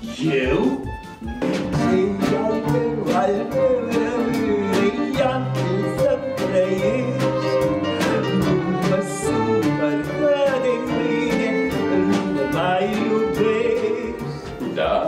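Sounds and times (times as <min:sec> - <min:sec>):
lively instrumental music: 0:00.0 - 0:15.0.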